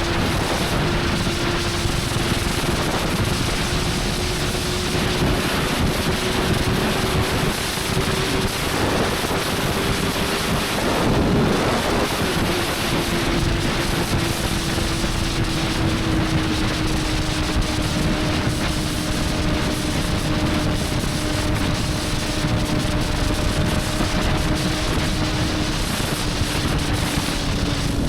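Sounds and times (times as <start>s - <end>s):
motorcycle engine cruising: 0.0s - 28.0s
wind rush on microphone: 0.0s - 28.0s.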